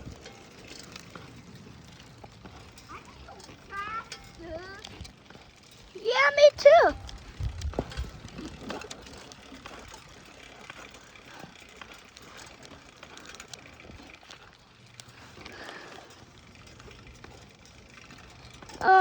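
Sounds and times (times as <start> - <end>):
bicycle clicks and rattles: 0.0 - 19.0
bicycle tyres on pavement: 0.0 - 19.0.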